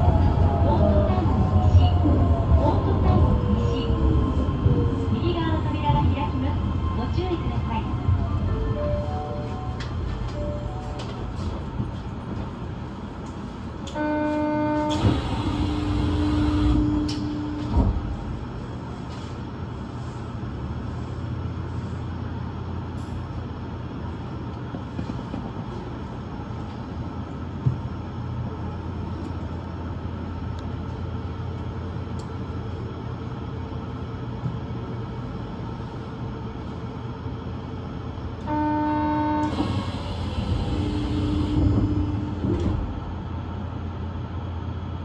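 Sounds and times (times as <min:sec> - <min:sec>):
train running low rumble: 0:00.0 - 0:45.0.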